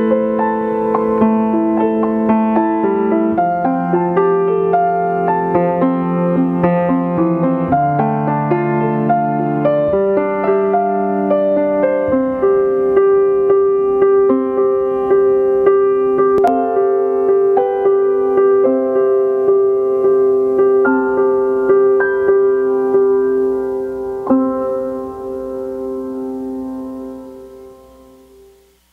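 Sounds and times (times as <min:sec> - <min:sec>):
slow solo piano: 0:00.0 - 0:28.9.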